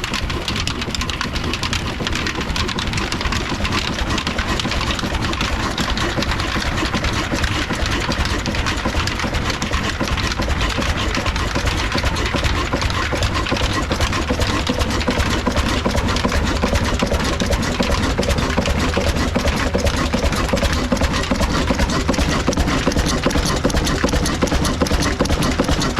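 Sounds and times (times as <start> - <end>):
diesel engine running: 0.0 - 25.9
flour mill machinery clatter: 0.0 - 25.9.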